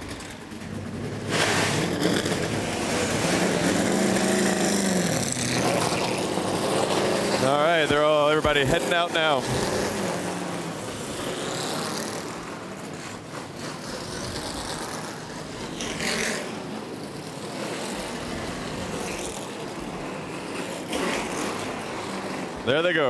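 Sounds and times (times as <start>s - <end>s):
race car engines running: 0.0s - 23.0s.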